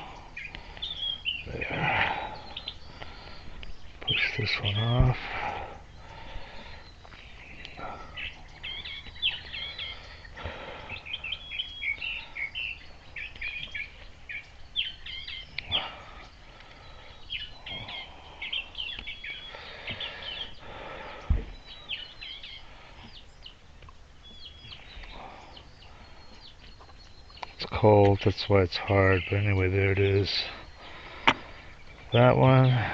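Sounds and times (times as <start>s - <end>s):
low steady hum: 0.0s - 32.9s
songbirds chirping: 0.0s - 32.9s.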